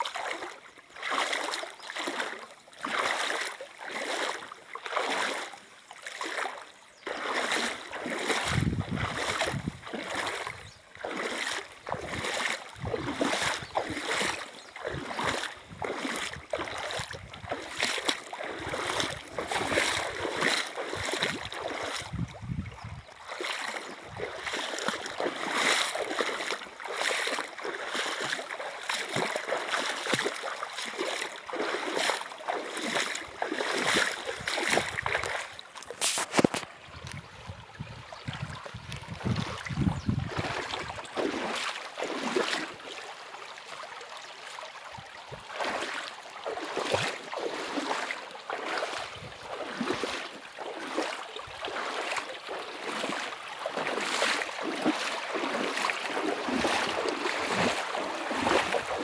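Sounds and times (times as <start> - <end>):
river water running: 0.0 - 59.0
water splashes: 0.0 - 59.0.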